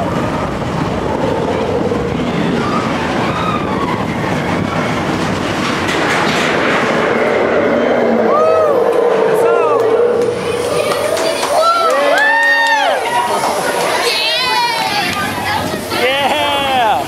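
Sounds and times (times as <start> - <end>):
roller coaster on track: 0.0 - 17.0.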